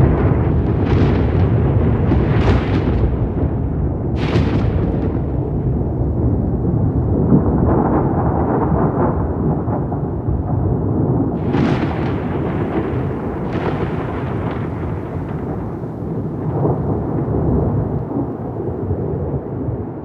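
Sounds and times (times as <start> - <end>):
crackling thunder peals: 0.0 - 20.0
thunder rumbling: 0.0 - 20.0.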